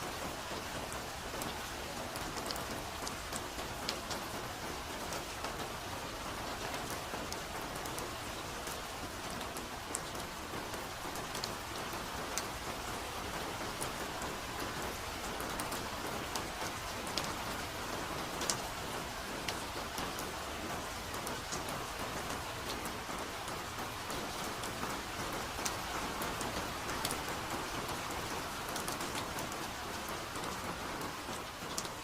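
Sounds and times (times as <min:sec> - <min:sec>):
soft rain on foliage: 0:00.0 - 0:32.0.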